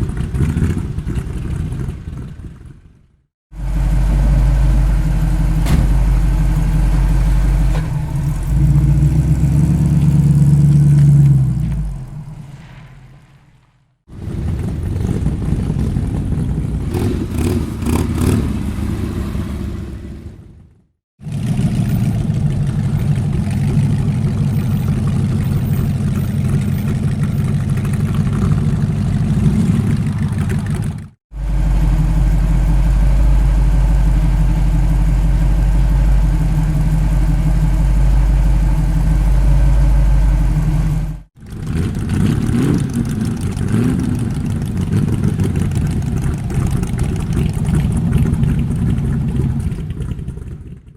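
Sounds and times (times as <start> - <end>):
old car engine running: 0.0 - 12.5, 14.1 - 50.9.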